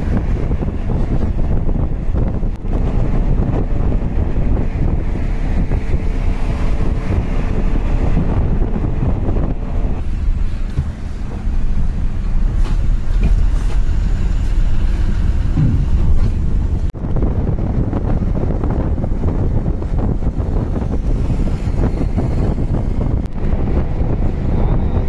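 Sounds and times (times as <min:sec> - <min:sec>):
bus engine: 0:00.0 - 0:25.0
road rumble: 0:00.0 - 0:25.0
wind noise: 0:00.0 - 0:25.0.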